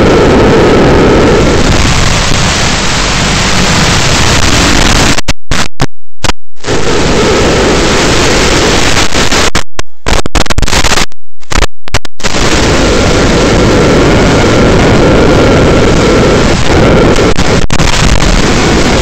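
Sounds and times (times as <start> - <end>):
loud rushing noise: 0.0 - 5.7, 6.6 - 19.0.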